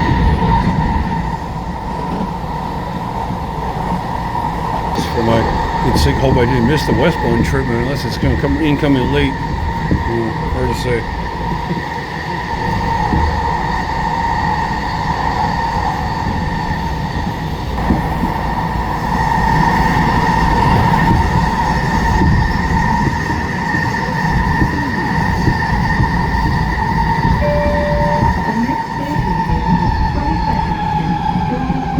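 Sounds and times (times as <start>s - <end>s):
metro train whine: 0.0s - 31.9s
wheels rumbling on track: 0.0s - 31.9s.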